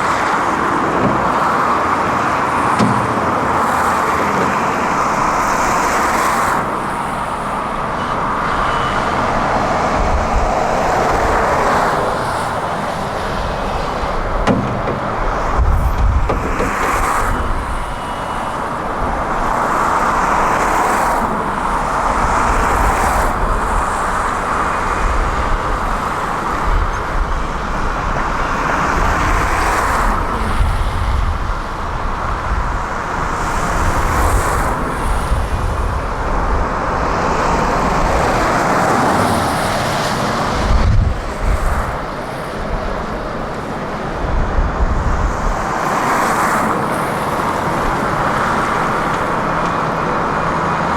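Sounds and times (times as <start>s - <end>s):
diesel machinery engines working: 0.0s - 50.9s.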